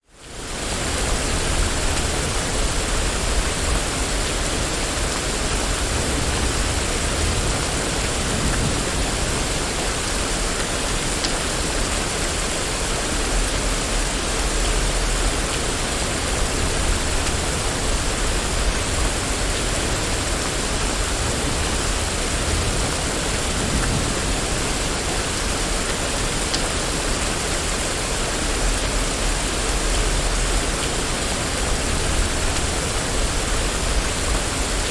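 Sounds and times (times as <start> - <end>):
rain falling on street: 0.0 - 34.9.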